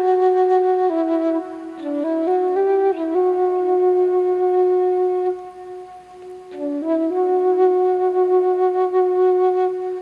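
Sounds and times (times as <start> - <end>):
flute long steady note: 0.0 - 10.0.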